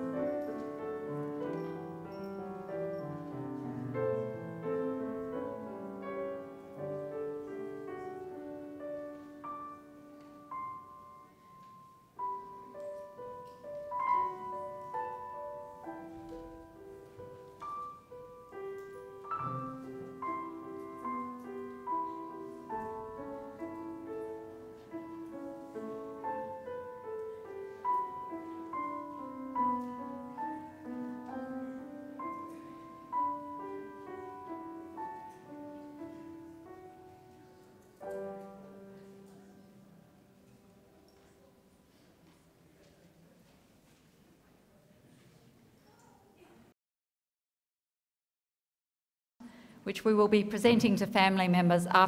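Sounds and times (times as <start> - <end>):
solo piano melody: 0.0 - 41.7.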